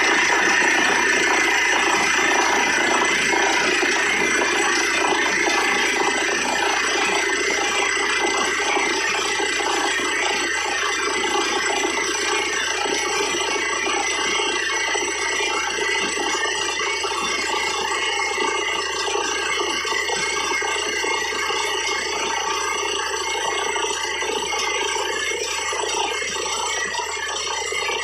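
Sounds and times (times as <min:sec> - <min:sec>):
drilling rig running: 0:00.0 - 0:28.0.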